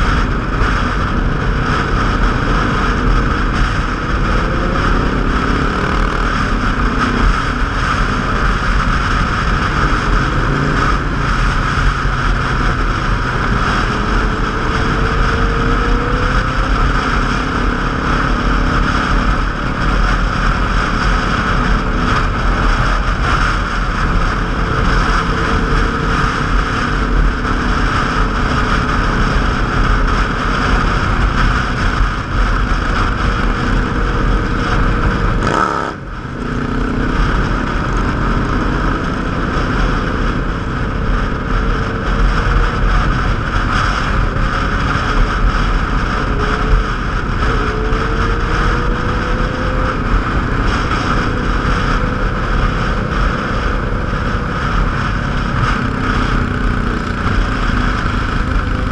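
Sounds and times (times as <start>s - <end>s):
motorcycle engine running: 0.0s - 58.9s
wind rushing on microphone: 0.0s - 58.9s.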